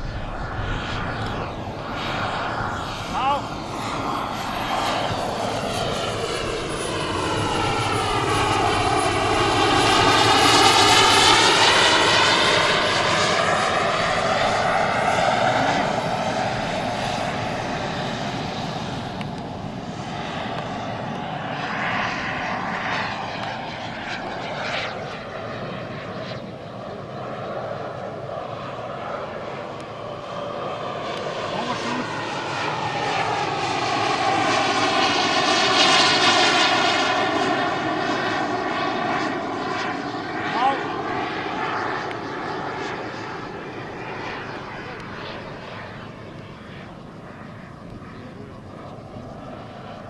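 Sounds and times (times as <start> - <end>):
jet roar: 0.0 - 50.0
jet turbine whine: 0.0 - 50.0.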